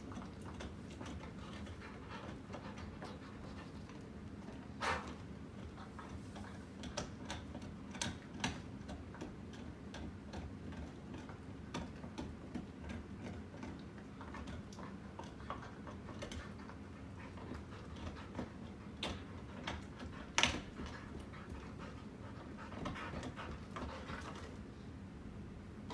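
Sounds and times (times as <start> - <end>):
ceiling fan motor hum: 0.0 - 25.9.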